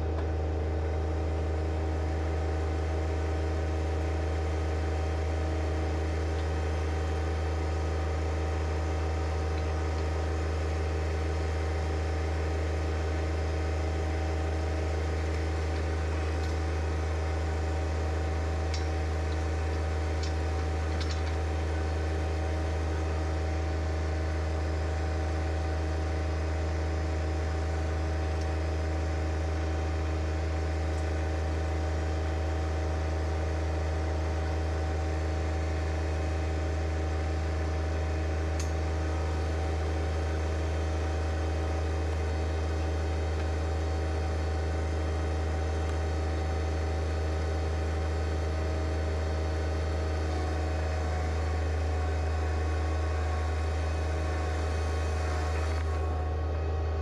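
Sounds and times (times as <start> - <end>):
diesel tractor engine droning: 0.0 - 57.0.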